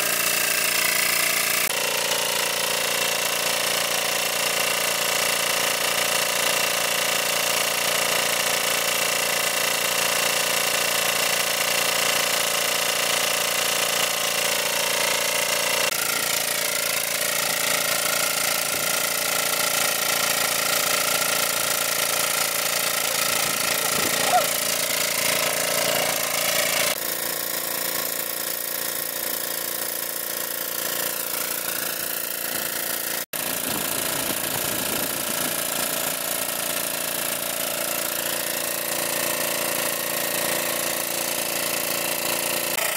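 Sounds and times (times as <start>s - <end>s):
water pump engine droning: 0.0s - 42.9s.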